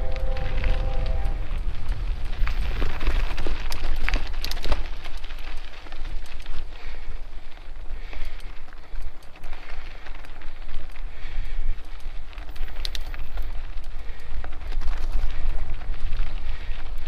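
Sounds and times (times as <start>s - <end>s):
bike rattling over bumps: 0.0s - 17.0s
tyres crackling on dirt: 0.0s - 17.0s
wind buffeting microphone: 0.0s - 17.0s.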